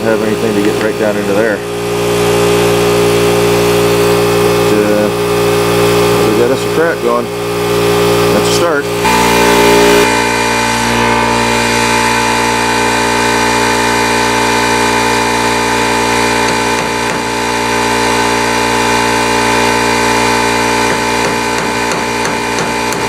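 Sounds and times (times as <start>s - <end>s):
die grinder cutting metal: 0.0s - 23.0s.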